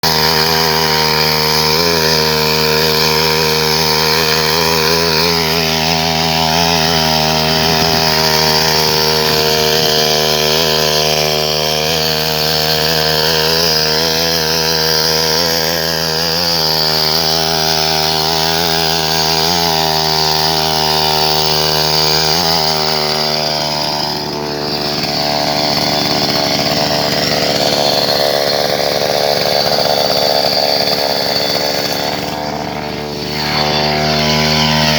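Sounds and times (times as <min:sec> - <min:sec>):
two-stroke engine buzzing: 0:00.0 - 0:34.9.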